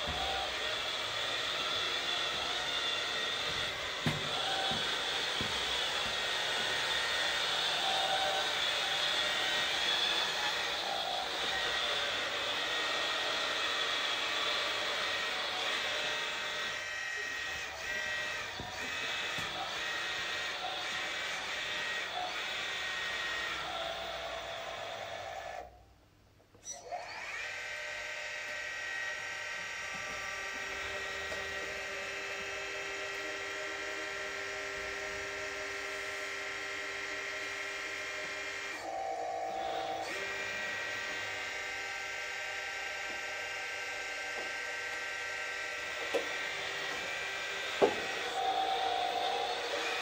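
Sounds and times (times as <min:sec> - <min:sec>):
toy truck motor whining: 0:00.0 - 0:25.8, 0:26.5 - 0:50.0.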